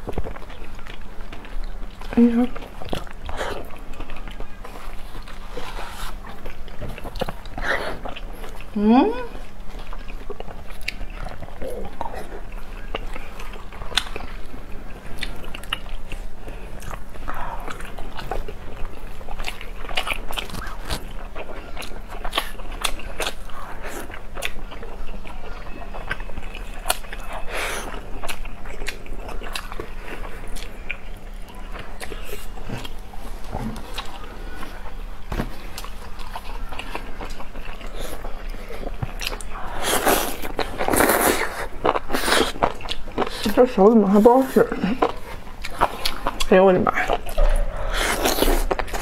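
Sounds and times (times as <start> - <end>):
people biting and chewing food: 0.0 - 49.0.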